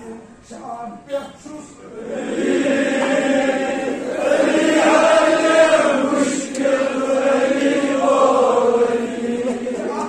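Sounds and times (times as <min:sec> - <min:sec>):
men chanting together: 0:01.8 - 0:10.0.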